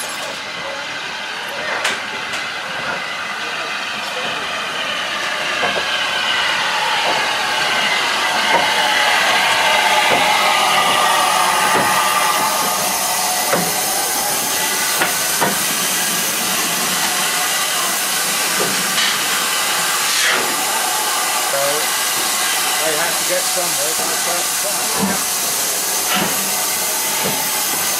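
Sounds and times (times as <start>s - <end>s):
loud steam hiss: 0.0s - 27.9s.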